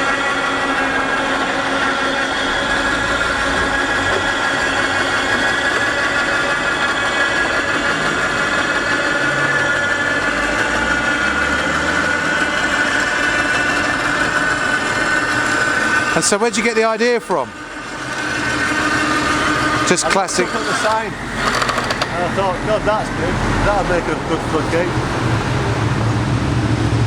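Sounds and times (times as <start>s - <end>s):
small electric motor whining: 0.0s - 25.2s.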